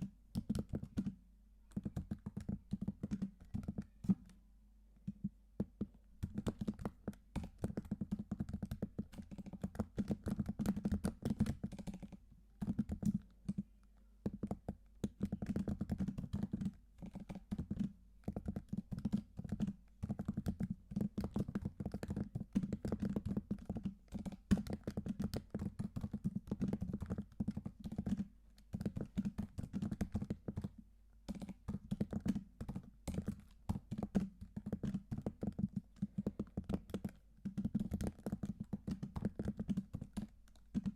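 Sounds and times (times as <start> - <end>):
computer keyboard typing: 0.4 - 4.4, 5.2 - 40.9.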